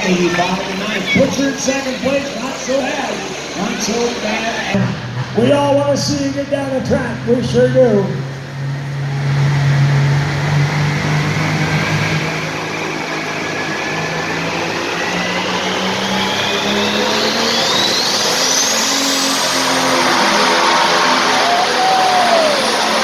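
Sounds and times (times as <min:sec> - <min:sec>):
diesel tractor engine: 0:00.0 - 0:23.0
high turbo whine: 0:00.0 - 0:23.0.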